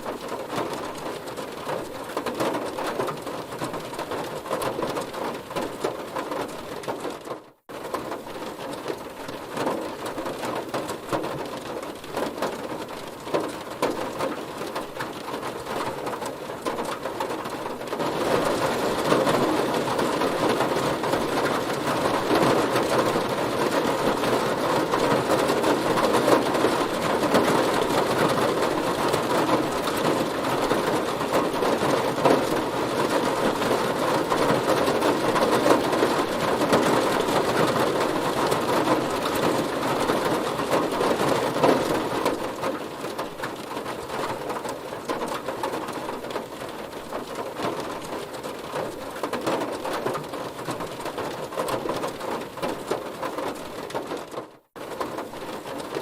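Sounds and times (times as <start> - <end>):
heavy rain drumming on car roof: 0.0 - 56.0.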